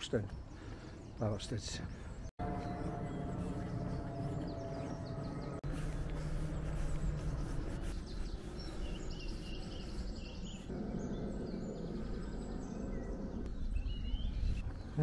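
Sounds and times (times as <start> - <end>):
bird chirping and trilling: 1.8 - 15.0
low outdoor rumble: 2.4 - 15.0.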